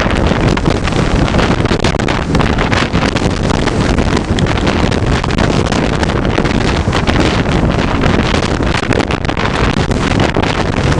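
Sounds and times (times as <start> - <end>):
jet engines rumbling: 0.0 - 10.9
wind buffeting microphone: 0.0 - 10.9.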